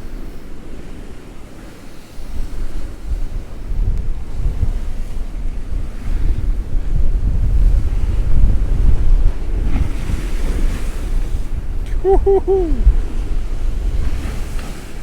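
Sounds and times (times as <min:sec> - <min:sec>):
waves surging against sea wall: 0:00.0 - 0:15.0
gale buffeting microphone: 0:02.5 - 0:15.0.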